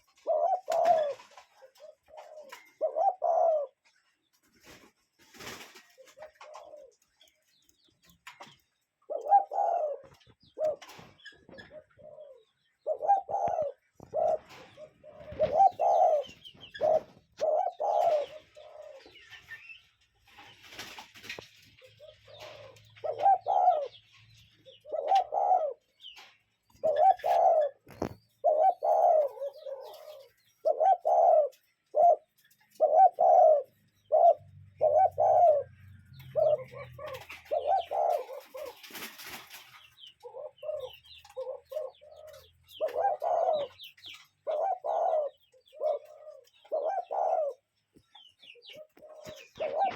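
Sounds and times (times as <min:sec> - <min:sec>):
cuckoo calling: 0:00.0 - 0:03.8, 0:09.1 - 0:19.8, 0:21.8 - 0:49.9.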